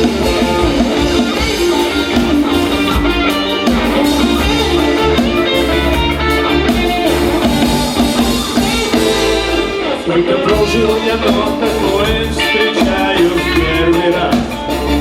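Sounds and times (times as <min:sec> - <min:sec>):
bass: 0:00.0 - 0:15.0
drum kit beat: 0:00.0 - 0:15.0
electric guitar melody: 0:00.0 - 0:15.0.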